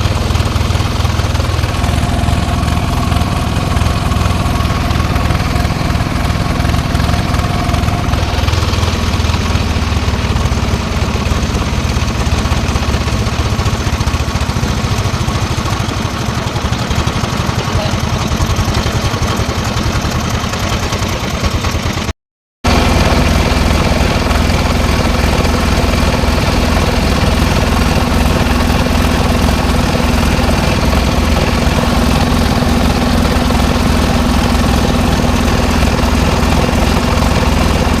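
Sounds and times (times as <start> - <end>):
small engine running: 0.0 - 22.1, 22.7 - 38.0.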